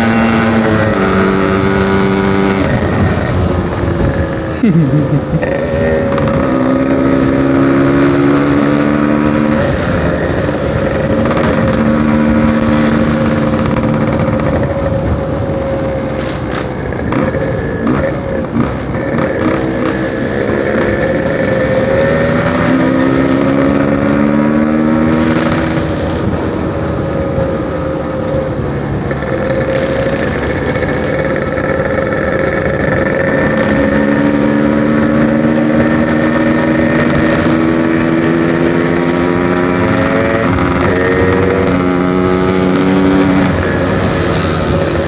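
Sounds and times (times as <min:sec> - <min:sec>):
steady rushing noise: 0:00.0 - 0:45.0
two-stroke motorcycle engine: 0:00.0 - 0:45.0.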